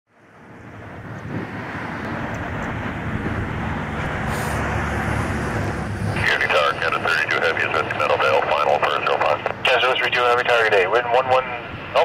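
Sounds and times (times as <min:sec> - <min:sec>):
distant airliner rumble: 0:00.1 - 0:12.0.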